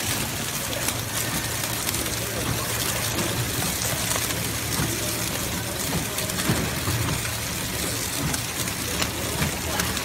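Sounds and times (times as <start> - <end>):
packaging machine whirring: 0.0 - 10.0.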